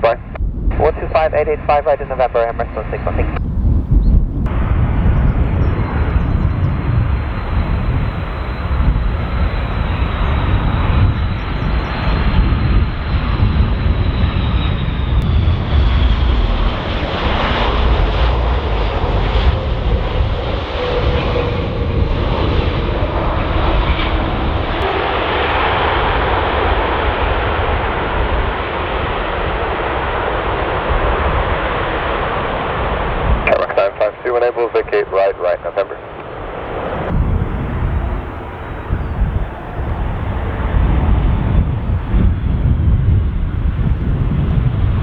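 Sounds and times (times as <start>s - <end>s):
jet engines roaring and whining: 0.0s - 45.0s.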